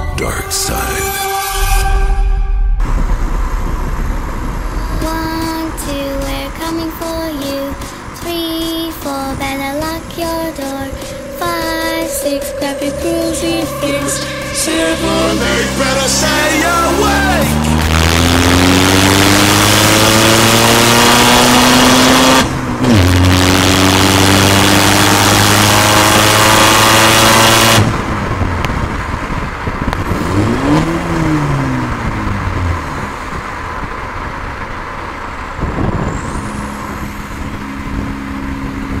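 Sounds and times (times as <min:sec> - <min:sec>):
diesel car engine accelerating: 0:01.6 - 0:39.0.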